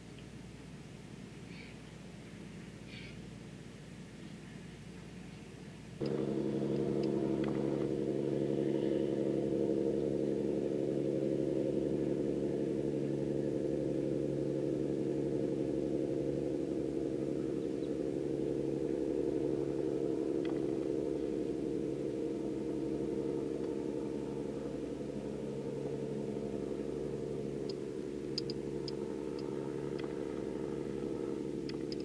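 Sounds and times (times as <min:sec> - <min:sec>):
vehicle engine idling: 0:06.0 - 0:32.0.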